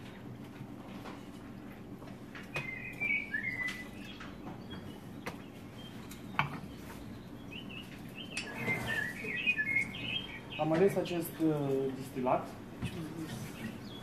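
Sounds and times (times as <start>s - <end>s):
birds chirping: 1.1s - 14.0s.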